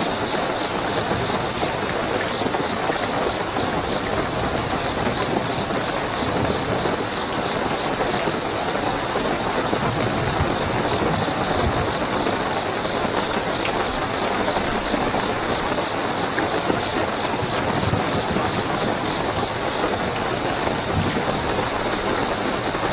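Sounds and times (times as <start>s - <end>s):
cricket trill: 0.0s - 22.9s
heavy rainfall: 0.0s - 22.9s.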